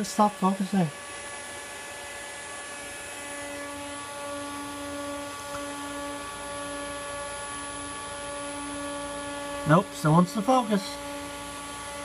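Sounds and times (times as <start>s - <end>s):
computer equipment hum and fan whir: 0.0s - 12.0s.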